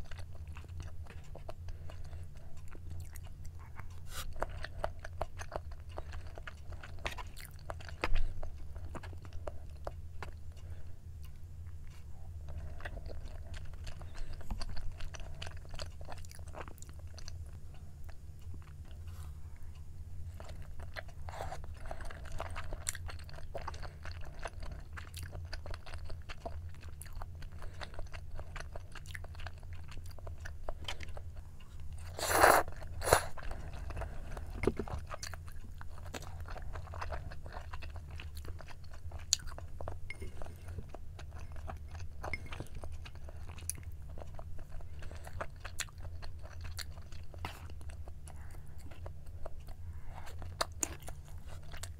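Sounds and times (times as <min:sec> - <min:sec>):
person chewing with wet clicks: 0:00.0 - 0:51.9.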